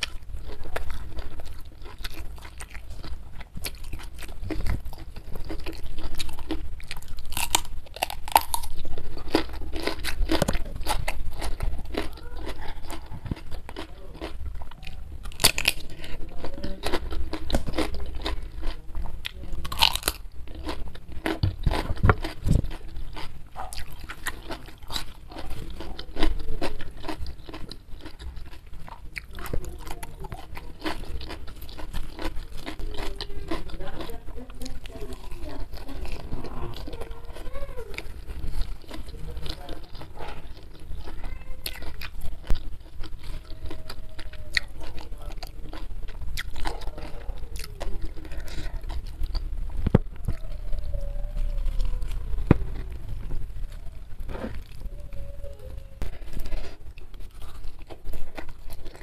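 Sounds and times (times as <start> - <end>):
wet chewing: 0.0 - 59.0.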